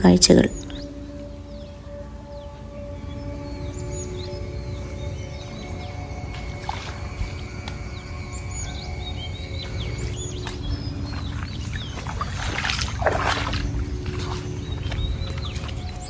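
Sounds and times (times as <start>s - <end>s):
background music: 0.0s - 16.0s
birds chirping: 0.0s - 16.0s
steady high whine: 0.0s - 16.0s.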